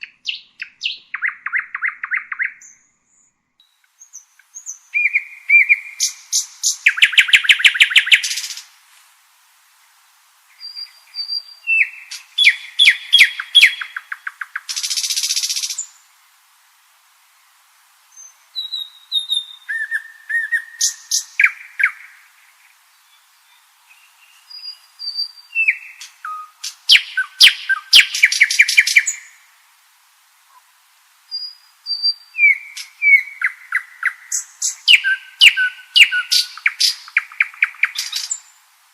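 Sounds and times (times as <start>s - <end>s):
nightingale singing: 0.0s - 8.8s, 10.4s - 16.2s, 18.0s - 29.6s, 30.4s - 38.8s.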